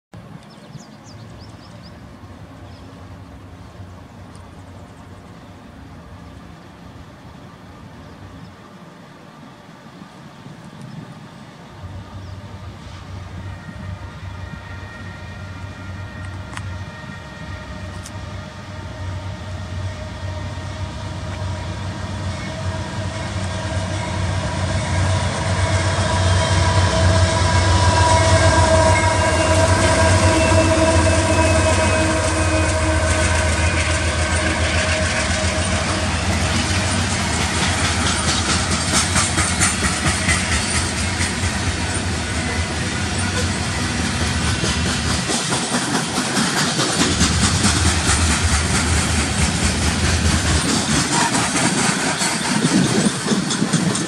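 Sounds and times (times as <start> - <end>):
distant diesel locomotives droning: 0.2 - 54.0.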